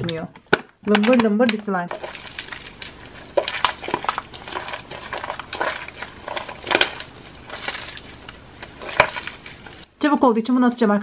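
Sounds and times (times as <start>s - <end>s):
slime squelching: 0.0s - 10.0s.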